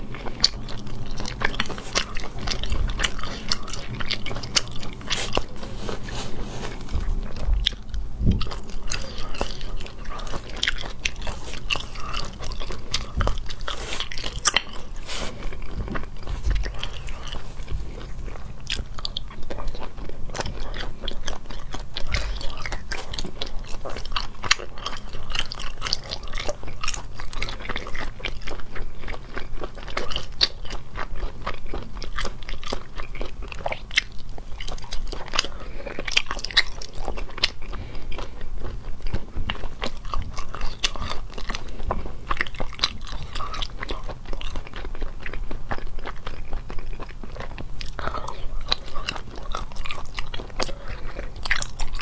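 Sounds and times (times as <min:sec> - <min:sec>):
biting and chewing: 0:00.0 - 0:52.0.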